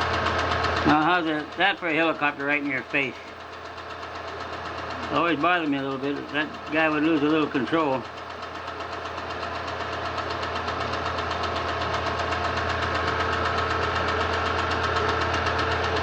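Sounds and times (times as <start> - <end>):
machine humming and clattering: 0.0 - 16.0.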